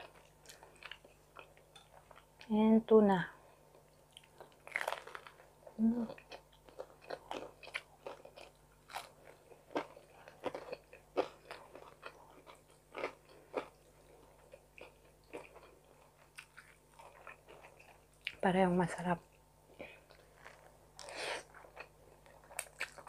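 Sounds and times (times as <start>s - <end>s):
chewing and crunching food: 0.0s - 2.5s, 3.7s - 18.4s, 19.7s - 23.0s.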